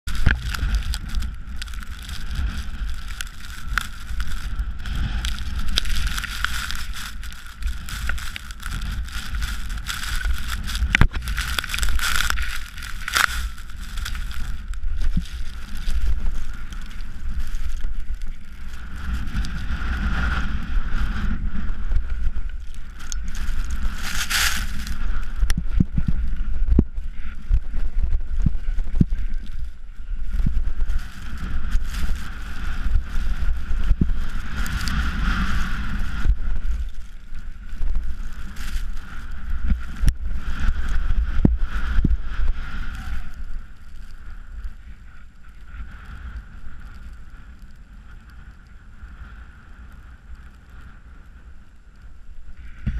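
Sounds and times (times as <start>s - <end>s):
skis scraping on snow: 0.0s - 49.9s
wind buffeting microphone: 0.0s - 51.4s.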